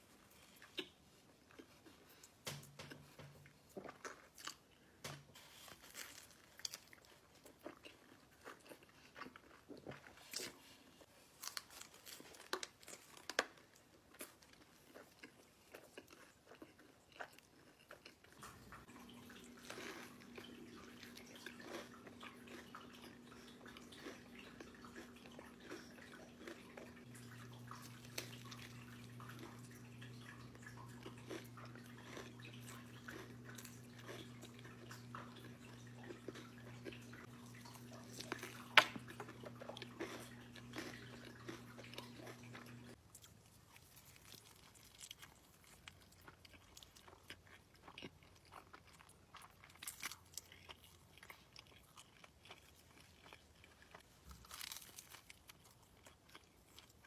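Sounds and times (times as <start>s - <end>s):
crunchy chewing: 0.3s - 57.0s.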